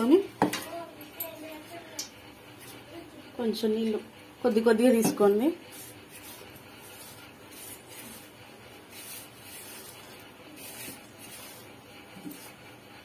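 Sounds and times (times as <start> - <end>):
hands mixing flour in a bowl: 0.4 - 13.0.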